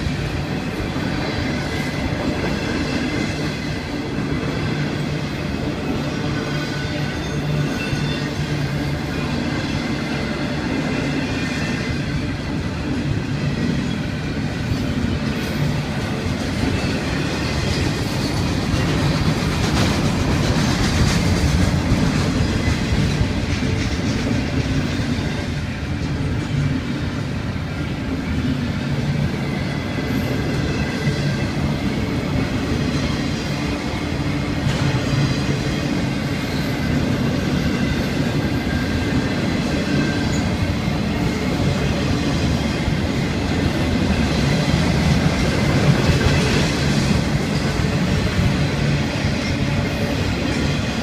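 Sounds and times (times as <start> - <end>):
freight train wheels rumbling on rails: 0.0 - 51.0.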